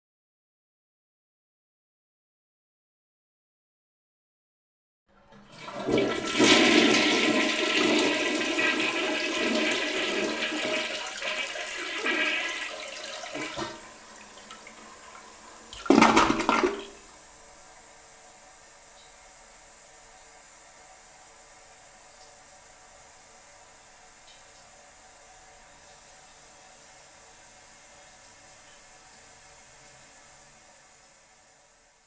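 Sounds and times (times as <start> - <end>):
faint steady hiss: 5.1 - 32.0
toilet flushing: 5.1 - 32.0.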